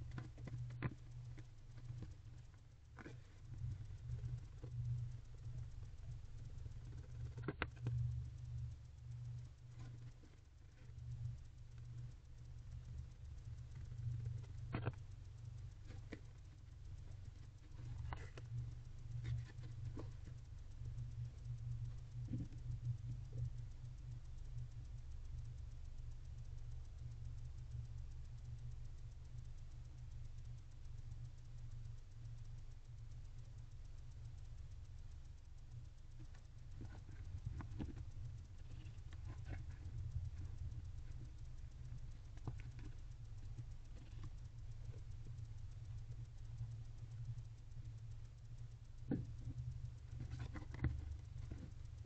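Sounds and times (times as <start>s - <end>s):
faint rapid ticking: 0.0s - 52.0s
low electrical hum: 0.0s - 52.0s.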